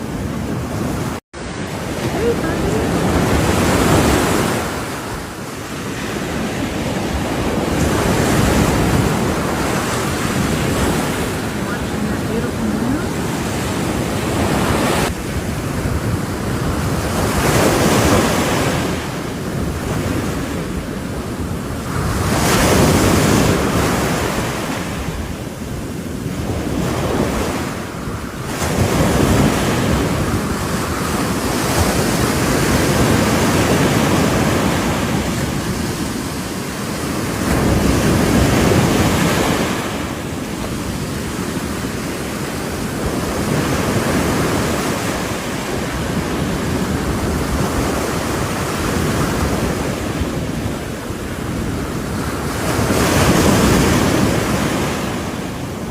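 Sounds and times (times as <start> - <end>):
ocean waves breaking: 0.0 - 55.9
wind buffeting microphone: 0.0 - 55.9.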